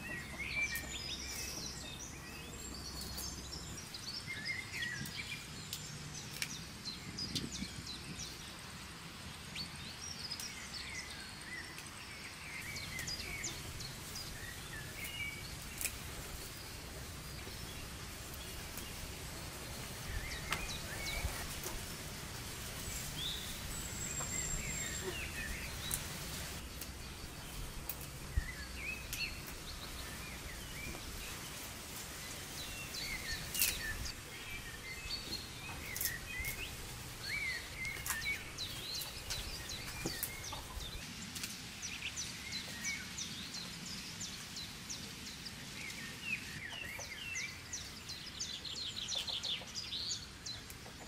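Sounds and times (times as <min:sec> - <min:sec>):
low outdoor background: 0:00.0 - 0:51.0
small birds chirping: 0:00.0 - 0:51.0.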